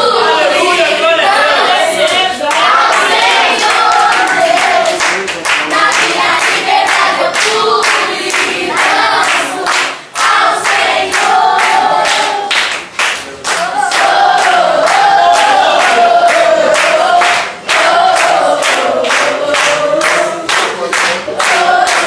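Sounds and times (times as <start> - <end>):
group of voices singing: 0.0 - 22.0
hand claps: 2.1 - 22.0.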